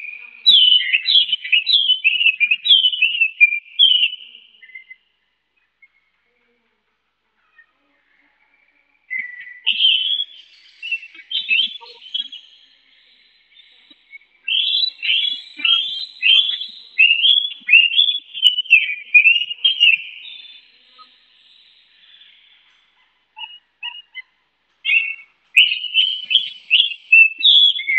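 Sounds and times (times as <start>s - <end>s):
songbird singing whistled phrases: 0.0s - 5.0s, 9.1s - 22.6s, 23.4s - 27.9s.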